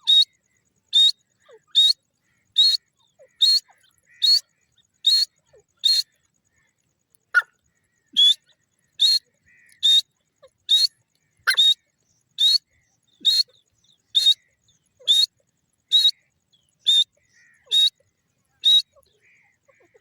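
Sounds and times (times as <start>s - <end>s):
francolin calling: 0.0s - 20.0s.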